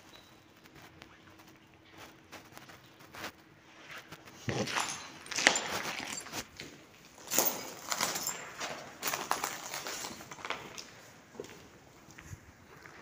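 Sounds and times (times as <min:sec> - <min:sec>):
footsteps on gritty concrete: 0:01.9 - 0:13.0.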